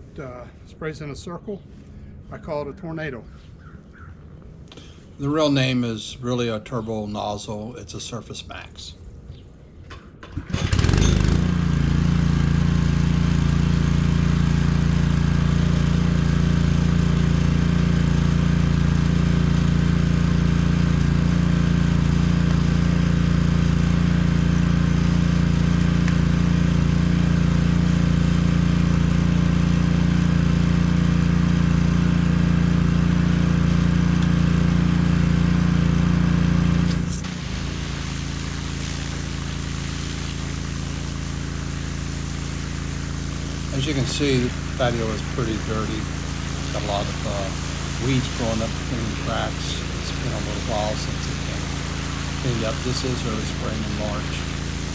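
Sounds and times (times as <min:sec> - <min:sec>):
pressure washer engine running: 0:04.7 - 0:10.0, 0:10.7 - 0:54.9.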